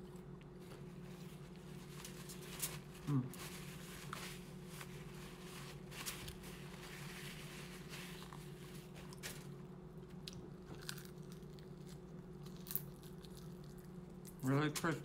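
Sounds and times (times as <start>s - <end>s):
steady low hum: 0.0s - 15.0s
crunching fried food: 1.4s - 14.8s.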